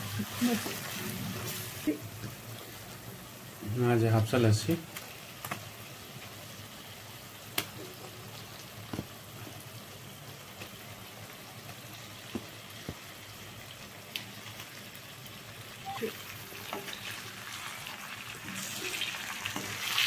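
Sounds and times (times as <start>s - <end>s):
pan cooking hiss: 0.0s - 20.0s.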